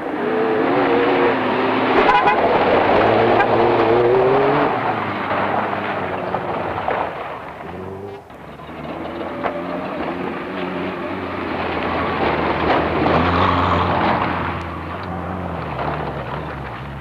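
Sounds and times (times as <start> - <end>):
rally car engine revving: 0.0 - 17.0
another car engine starting: 1.4 - 17.0.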